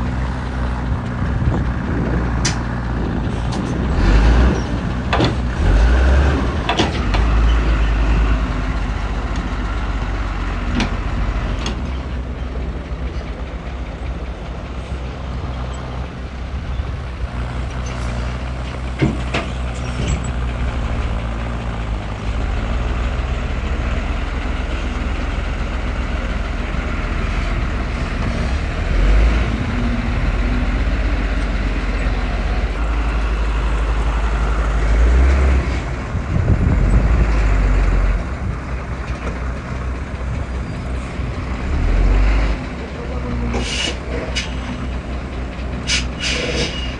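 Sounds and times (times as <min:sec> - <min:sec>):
diesel machinery engine: 0:00.0 - 0:46.9.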